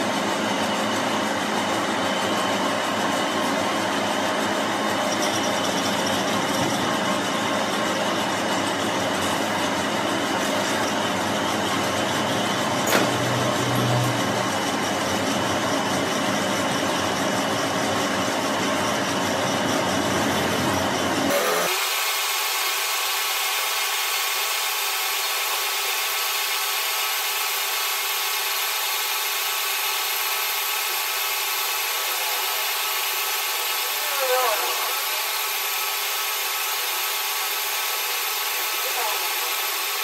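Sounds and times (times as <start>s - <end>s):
lathe machining metal: 0.0s - 40.0s.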